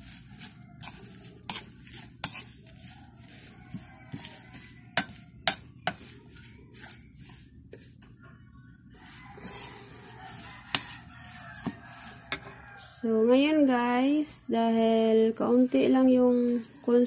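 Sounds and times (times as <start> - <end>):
utensil stirring wet leaves: 0.0 - 8.1, 8.9 - 13.1, 13.9 - 17.0.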